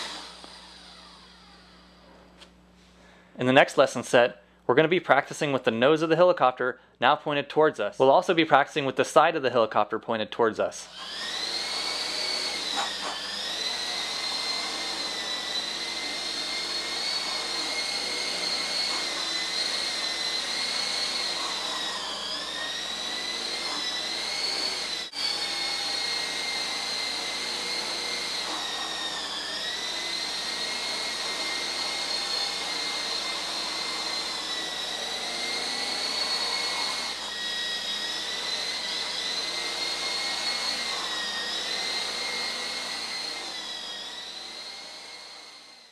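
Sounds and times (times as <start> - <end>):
rc helicopter rotor whine: 0.0 - 2.0, 10.8 - 45.9.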